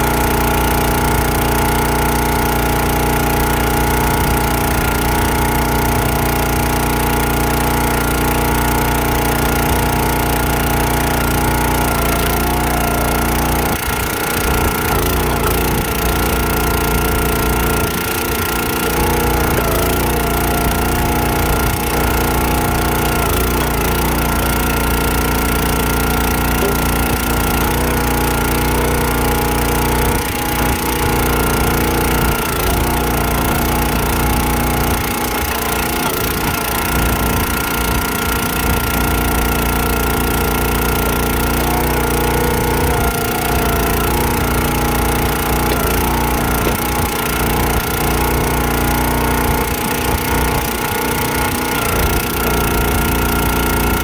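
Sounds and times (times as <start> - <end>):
hydraulic ram splitting logs: 0.0 - 54.0
small gas engine running: 0.0 - 54.0.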